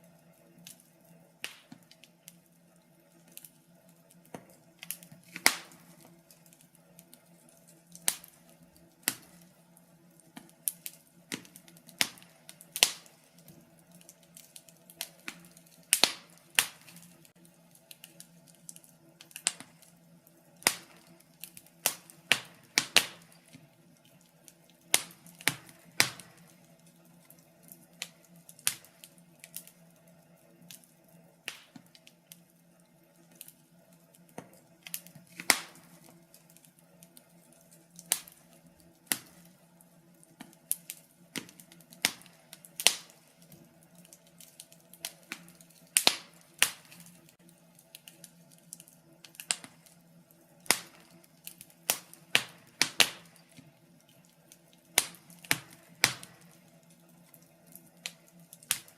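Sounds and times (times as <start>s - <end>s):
faint steady hum: 0.0s - 58.9s
wood fire crackling and popping: 0.0s - 58.9s.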